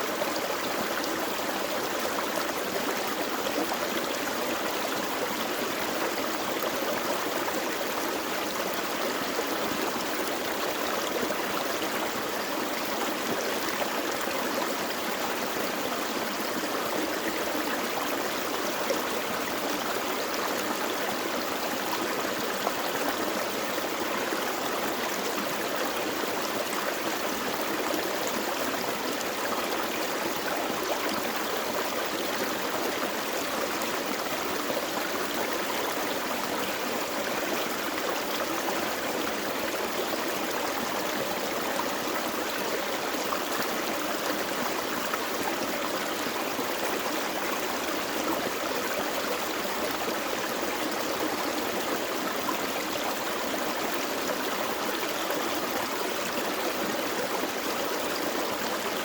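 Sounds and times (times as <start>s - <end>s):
creek burbling over rocks: 0.0s - 59.0s.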